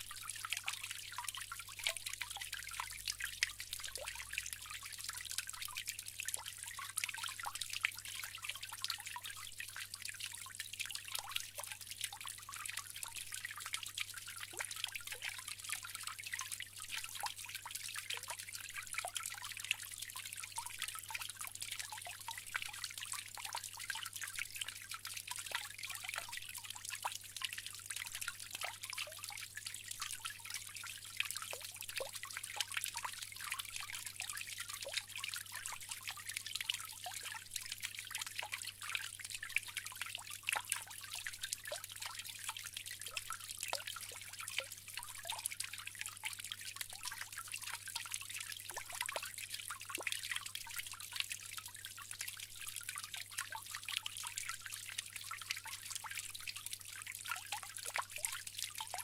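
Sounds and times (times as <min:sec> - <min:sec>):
fountain water trickling: 0:00.0 - 0:59.0
water dripping and splashing: 0:00.0 - 0:59.0.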